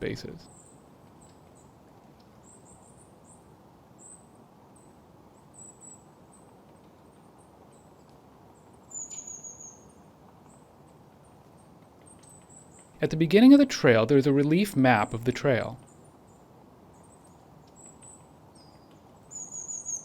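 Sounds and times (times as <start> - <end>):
steady low hiss: 0.0 - 20.0
small bird chirping: 0.4 - 13.1, 15.5 - 20.0.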